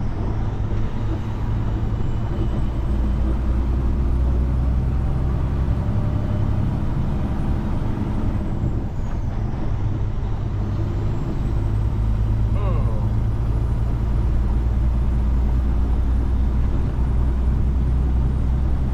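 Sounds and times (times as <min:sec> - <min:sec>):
truck diesel engine droning: 0:00.0 - 0:18.9.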